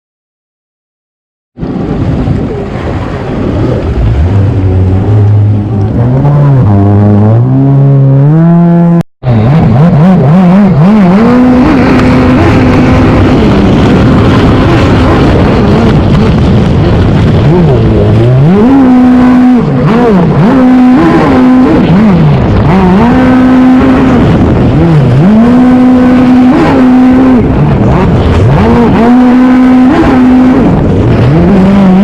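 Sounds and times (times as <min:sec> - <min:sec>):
wind rumble on microphone: 0:01.6 - 0:32.0
engine revving: 0:03.2 - 0:32.0.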